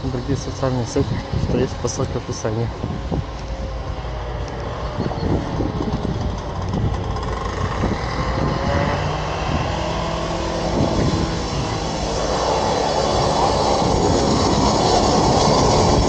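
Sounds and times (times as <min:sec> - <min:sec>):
road noise: 0:00.0 - 0:16.0
vehicle engine running: 0:00.0 - 0:16.0.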